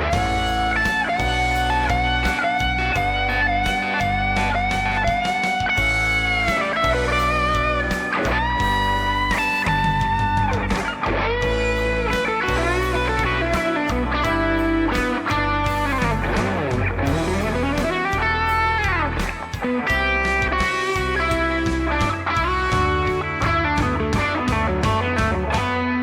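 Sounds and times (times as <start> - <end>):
backing track with drums: 0.0 - 26.0
electric guitar lead: 0.0 - 26.0.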